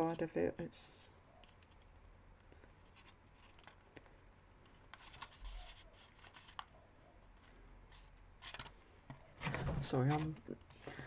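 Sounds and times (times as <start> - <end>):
card rustling and clicking: 1.4 - 6.8, 7.4 - 10.9.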